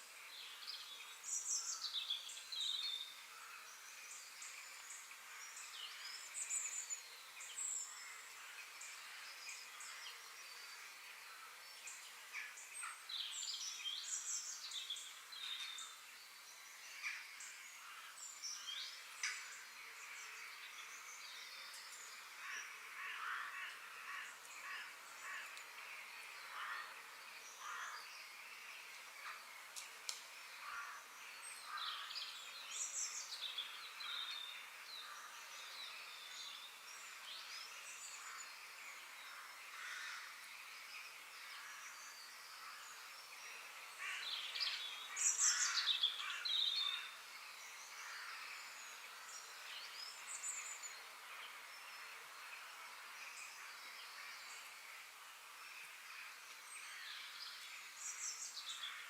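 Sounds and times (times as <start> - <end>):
faint background hiss: 0.0 - 59.0.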